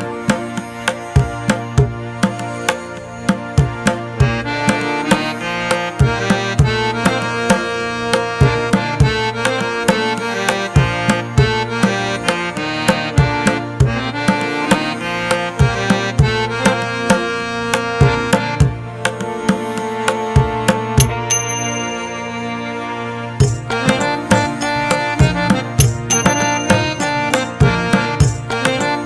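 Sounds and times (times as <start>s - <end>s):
regular drum beat: 0.0s - 5.4s, 6.0s - 21.5s, 23.4s - 29.0s
instrumental melody: 0.0s - 29.0s.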